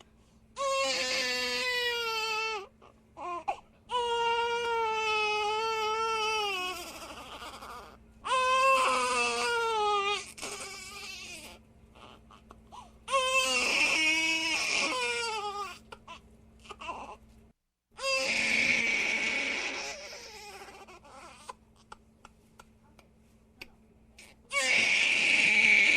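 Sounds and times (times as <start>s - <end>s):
baby crying: 0.6s - 12.5s, 13.1s - 17.2s, 18.0s - 22.0s, 24.2s - 25.9s
baby whimpering: 0.6s - 17.2s, 18.0s - 22.0s, 24.2s - 25.9s.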